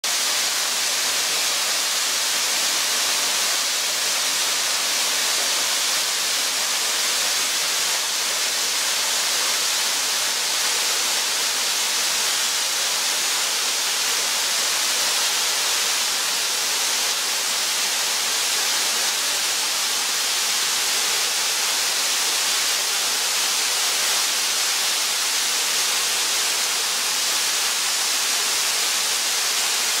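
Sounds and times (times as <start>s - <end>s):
waterfall splashing into a pool: 0.1s - 30.0s.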